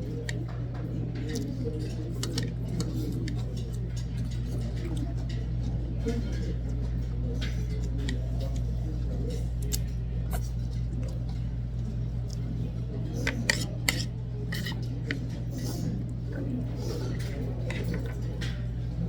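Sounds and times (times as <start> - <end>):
steady low hum: 0.0 - 19.0
utensils clinking against dishes: 0.0 - 19.0.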